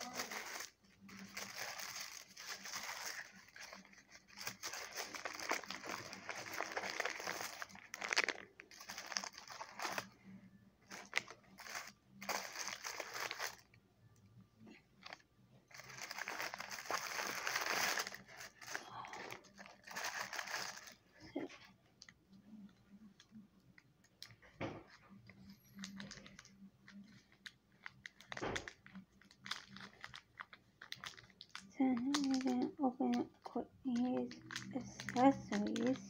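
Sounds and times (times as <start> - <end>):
cardboard and paper crinkling: 0.0 - 10.2, 10.9 - 13.7, 15.0 - 21.7, 25.6 - 33.3, 33.9 - 36.0.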